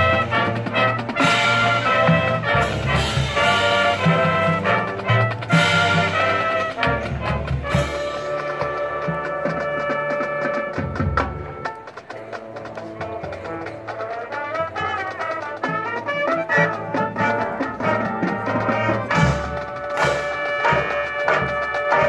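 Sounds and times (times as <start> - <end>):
brass chords: 0.0 - 22.0
marching band playing: 0.0 - 22.0.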